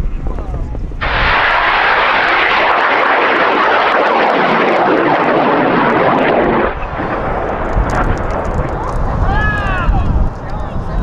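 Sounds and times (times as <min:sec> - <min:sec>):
rocket motor roaring: 0:01.0 - 0:10.2.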